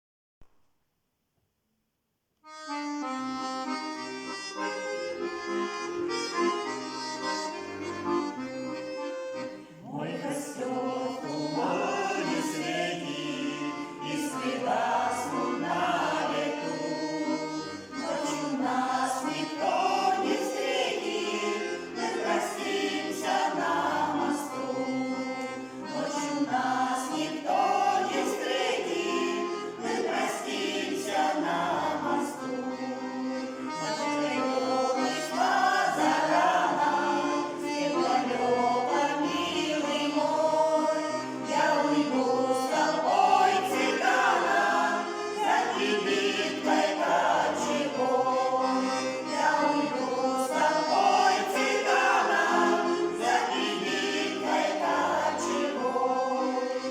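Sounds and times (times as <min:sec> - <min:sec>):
accordion playing chords: 0:02.4 - 0:56.9
vocal ensemble singing: 0:09.6 - 0:56.9.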